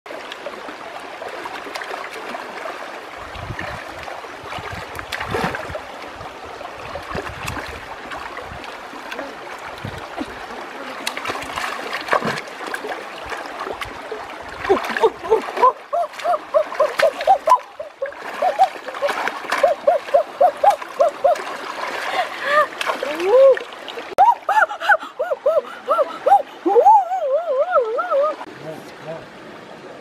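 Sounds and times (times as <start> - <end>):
stream running over rocks: 0.1 - 30.0
splashing in water: 1.2 - 26.4.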